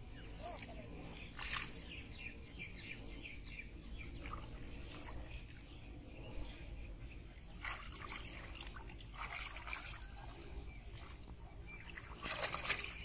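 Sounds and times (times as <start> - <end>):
water splashing and dripping: 0.0 - 2.4, 3.4 - 6.5, 7.2 - 13.0.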